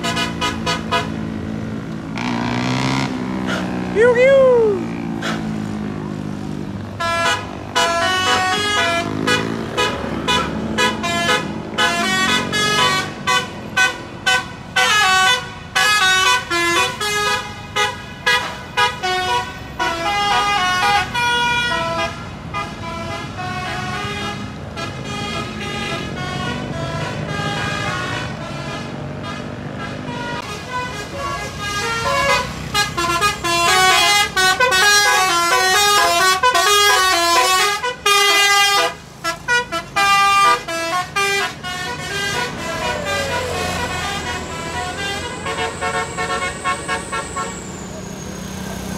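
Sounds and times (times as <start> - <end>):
multi-tone bus horns playing tunes: 0.0 - 3.8, 5.0 - 5.8, 6.9 - 48.9
bus engines running: 0.0 - 48.9.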